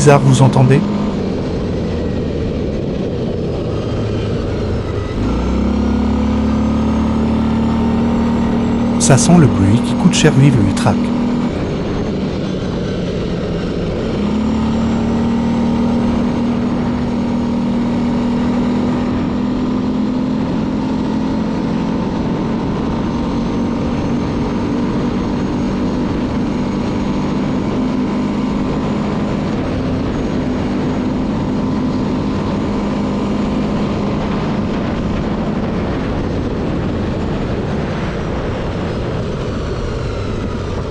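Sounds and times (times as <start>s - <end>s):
quad engine running: 0.0s - 40.9s.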